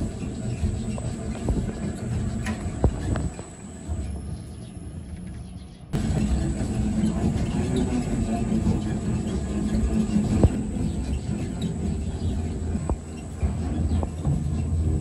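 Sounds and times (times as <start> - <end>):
mixing machine motor hum: 0.0 - 4.3, 6.0 - 15.0.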